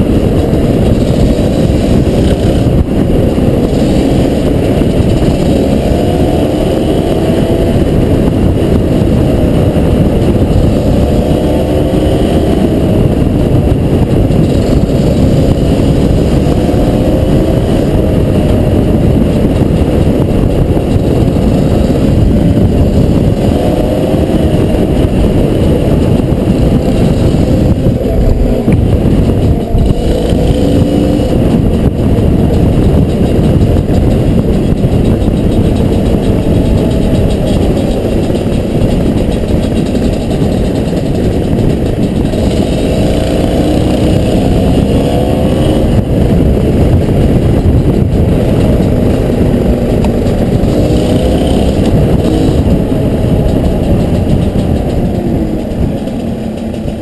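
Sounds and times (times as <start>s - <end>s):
dense low rumble: 0.0s - 57.0s
dirt bike engine revving: 0.0s - 57.0s.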